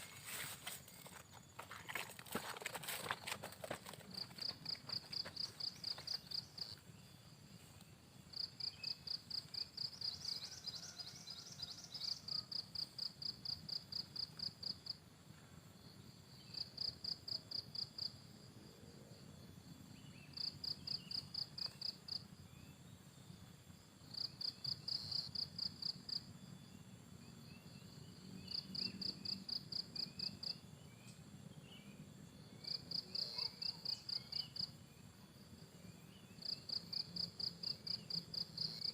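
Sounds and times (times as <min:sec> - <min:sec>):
cricket chirping in trills: 0:00.0 - 0:38.9.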